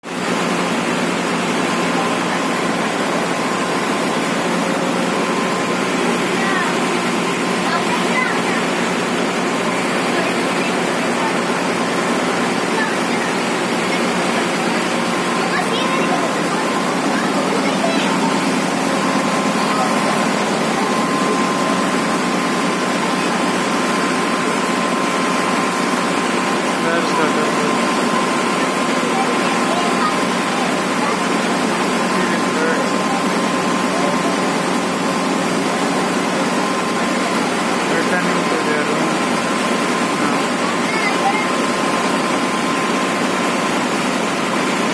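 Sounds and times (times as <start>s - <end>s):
boat engine drone: 0.0s - 44.9s
thin constant whine: 0.0s - 44.9s.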